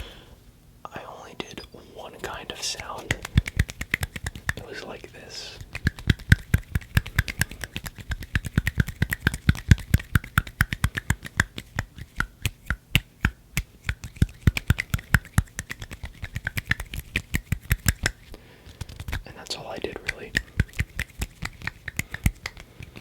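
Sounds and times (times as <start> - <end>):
crisp hand clicks and snaps: 2.2 - 4.6, 5.6 - 19.3, 19.9 - 23.0.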